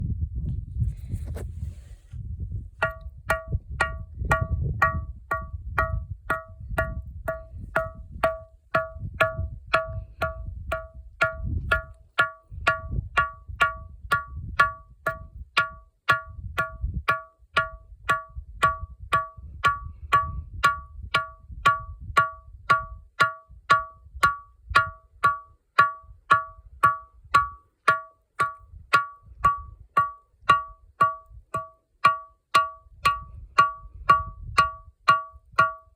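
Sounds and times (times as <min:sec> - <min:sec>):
ringing rock struck: 0:02.8 - 0:35.9.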